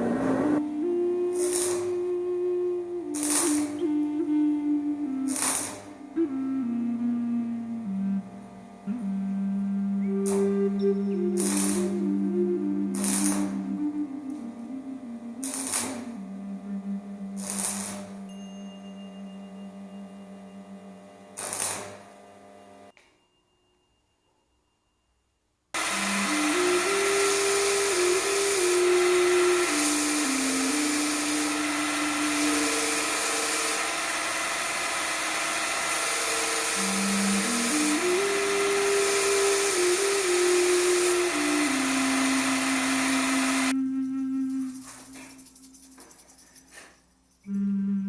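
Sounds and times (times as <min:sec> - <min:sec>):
slow flute-like melody: 0:00.0 - 0:20.9, 0:25.8 - 0:46.0, 0:47.5 - 0:48.0
electric power tool running: 0:00.0 - 0:22.9, 0:25.8 - 0:43.8.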